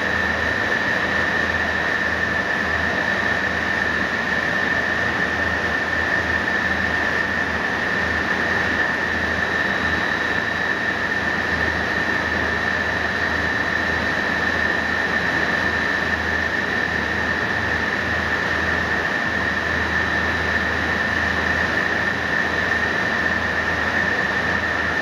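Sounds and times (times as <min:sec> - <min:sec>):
high-pitched machine whine: 0:00.0 - 0:25.0.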